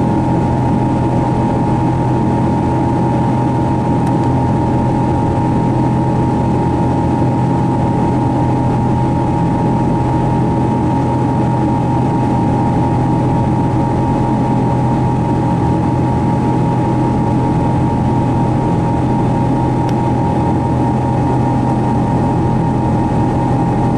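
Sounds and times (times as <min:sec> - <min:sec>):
jet engine cabin noise: 0:00.0 - 0:23.9
steady high whine: 0:00.0 - 0:23.9.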